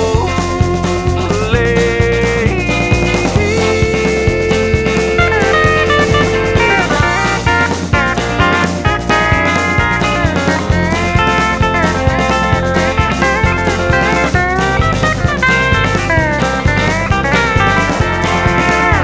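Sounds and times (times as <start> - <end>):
bass and drum beat: 0.0 - 19.0
lead guitar bending notes: 0.0 - 19.0.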